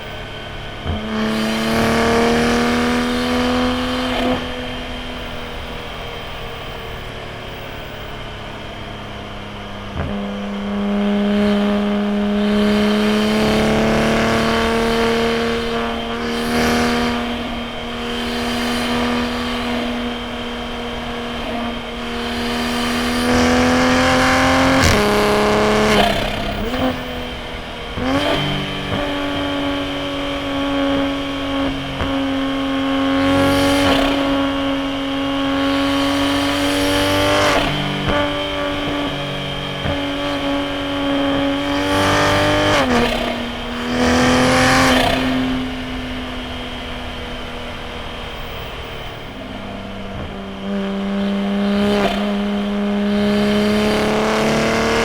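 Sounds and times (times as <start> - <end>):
car engine revving hard: 0.0 - 55.0
gear change rushes: 0.0 - 55.0.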